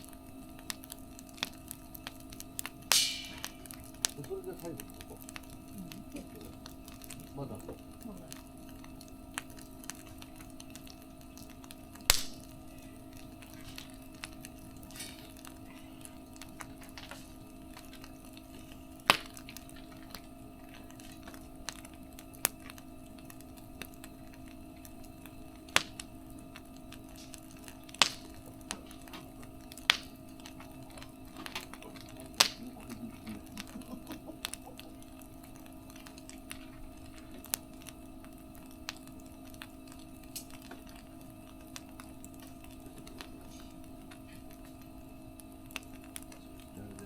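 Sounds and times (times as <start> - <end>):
faint steady hum: 0.0 - 47.0
wood fire crackling: 0.0 - 47.0.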